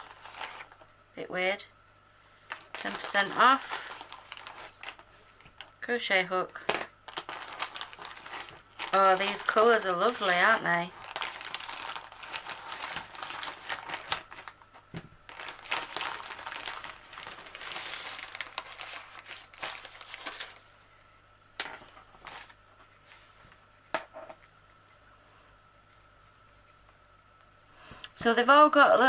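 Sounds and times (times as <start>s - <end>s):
crinkly packaging rustling: 0.0s - 0.9s, 2.5s - 5.9s, 6.5s - 20.9s, 21.6s - 27.0s.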